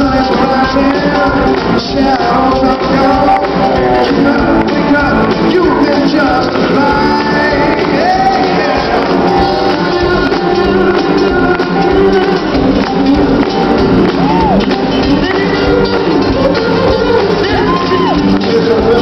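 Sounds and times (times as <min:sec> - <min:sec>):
drums: 0:00.0 - 0:19.0
person singing through a pa: 0:00.0 - 0:19.0.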